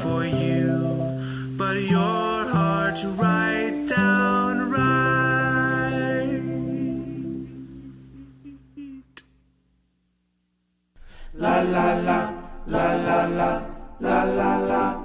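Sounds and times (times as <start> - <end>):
song held notes: 0.0 - 9.0, 11.2 - 15.0.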